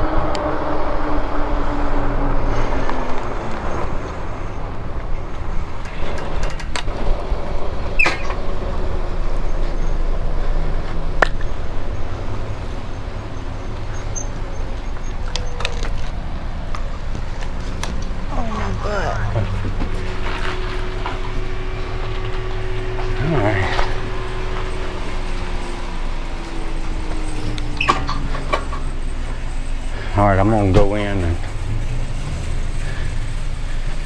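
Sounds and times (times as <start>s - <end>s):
falling whine: 0.0s - 34.0s
road and wind noise: 0.0s - 34.0s
traffic: 0.0s - 34.0s.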